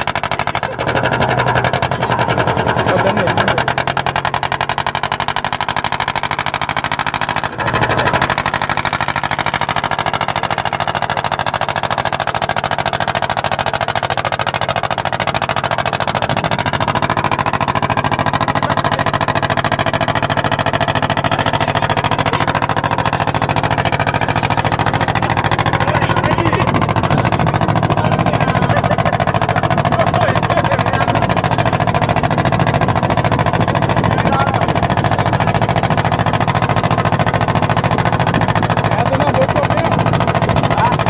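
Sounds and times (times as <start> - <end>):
boat engine chugging: 0.0 - 41.0.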